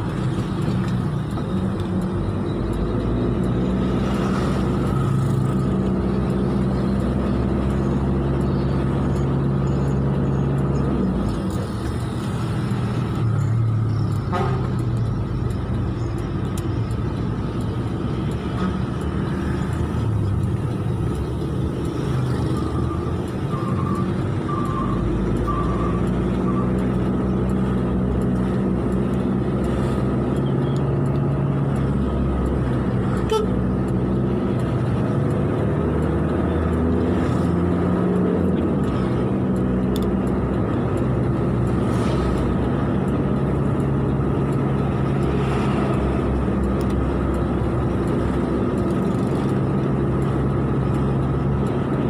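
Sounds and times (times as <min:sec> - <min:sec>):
road noise: 0:00.0 - 0:52.0
vehicle engine hum: 0:00.0 - 0:52.0.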